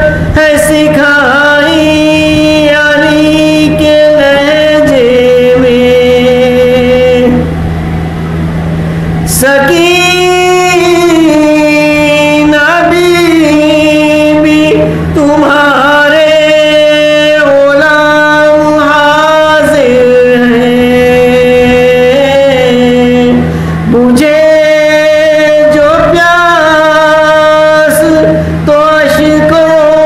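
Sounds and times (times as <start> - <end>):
man singing a lament: 0.0 - 7.5, 9.3 - 30.0
steady low hum: 0.0 - 30.0.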